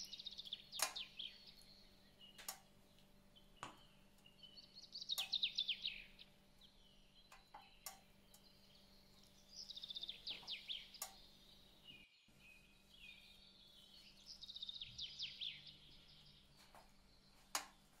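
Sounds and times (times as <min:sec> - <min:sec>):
bird singing high falling chirps: 0:00.0 - 0:17.4
faint steady hum: 0:00.0 - 0:18.0.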